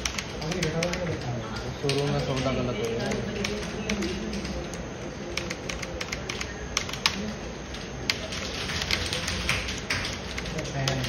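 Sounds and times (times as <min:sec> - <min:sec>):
keyboard keys clicking: 0:00.0 - 0:11.0
steady background hum: 0:00.0 - 0:11.0.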